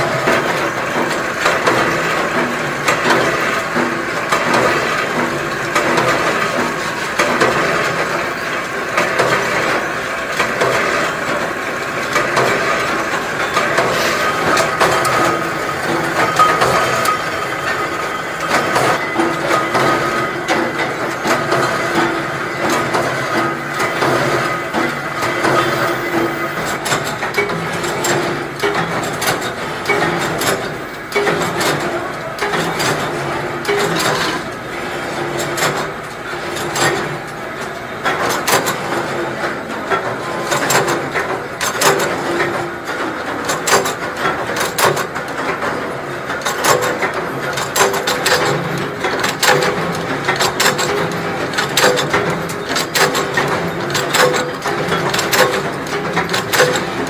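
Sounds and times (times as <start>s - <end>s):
machinery rapid clicking and clattering: 0.0s - 57.0s
steady machine hum: 0.0s - 57.0s.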